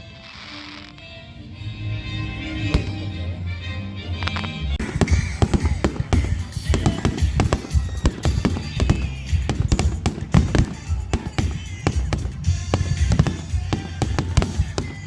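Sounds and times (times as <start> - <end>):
background music: 0.0 - 15.0
fireworks bangs: 2.2 - 15.0.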